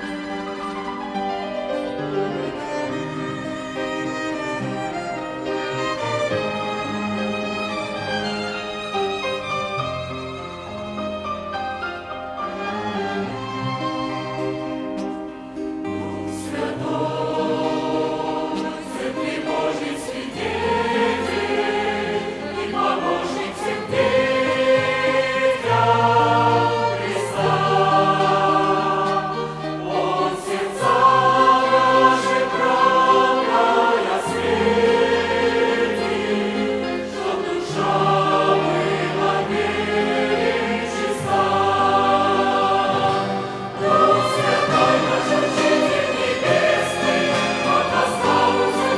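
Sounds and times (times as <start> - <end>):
choir singing a hymn: 0.0 - 48.9
violin ensemble: 0.0 - 48.9.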